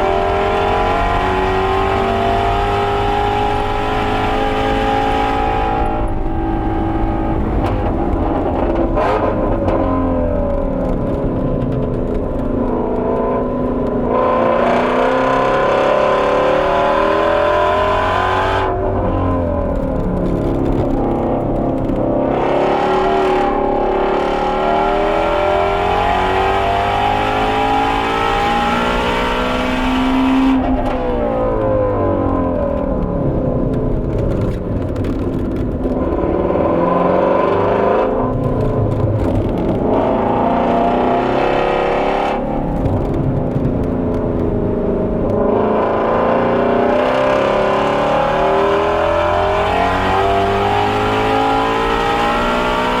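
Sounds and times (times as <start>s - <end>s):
car engine revving hard: 0.0s - 11.5s, 12.6s - 33.7s, 34.4s - 53.0s.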